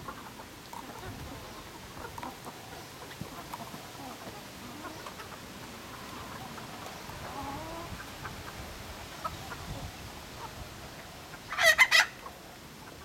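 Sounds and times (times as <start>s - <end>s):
chickens squawking: 0.0s - 10.6s, 11.2s - 13.0s
chickens clucking: 0.0s - 13.0s.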